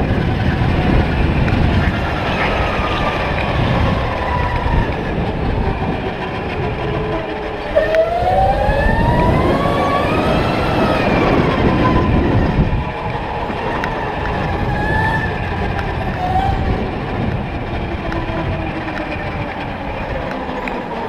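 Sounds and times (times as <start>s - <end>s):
electric kart motor whining: 0.0s - 21.0s
steady low rumble: 0.0s - 21.0s.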